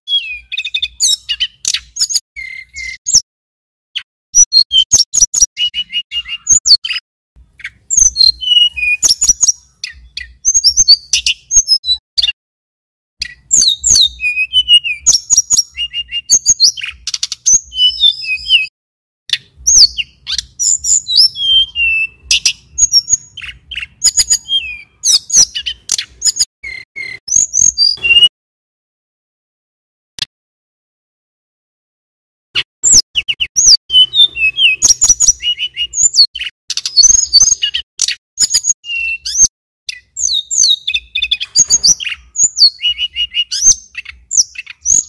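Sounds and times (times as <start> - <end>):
bird singing chirps and trills: 0.1 - 3.2, 4.0 - 12.4, 13.2 - 18.7, 19.3 - 28.3, 32.6 - 45.0.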